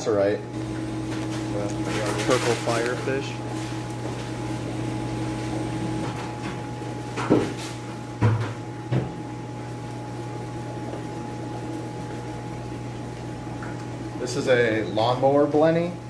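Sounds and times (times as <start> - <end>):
air pumps and filters humming: 0.0 - 16.0.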